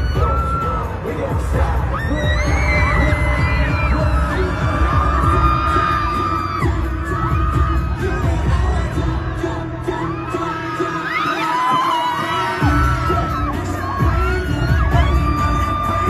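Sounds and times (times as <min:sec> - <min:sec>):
loud pop music with heavy bass: 0:00.0 - 0:16.0.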